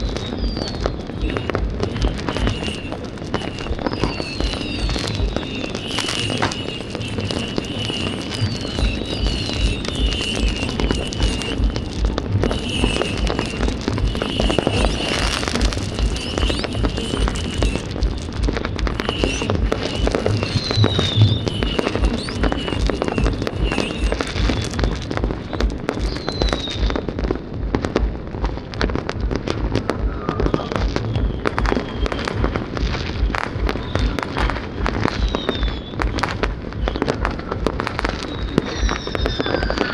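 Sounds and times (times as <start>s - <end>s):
firework whistles gliding down: 0.0s - 27.4s, 29.4s - 39.9s
fireworks crackling bangs: 0.0s - 39.9s
music with bass beat: 0.0s - 39.9s.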